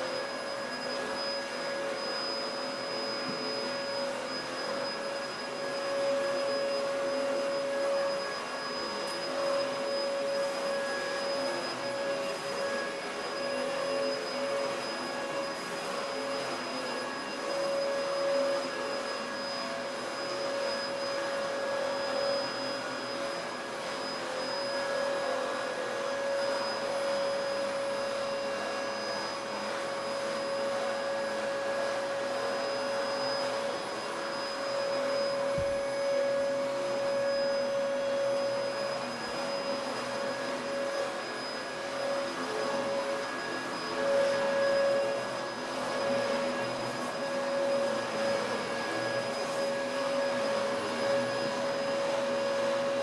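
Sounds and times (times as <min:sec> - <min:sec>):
vacuum cleaner running: 0:00.0 - 0:53.0.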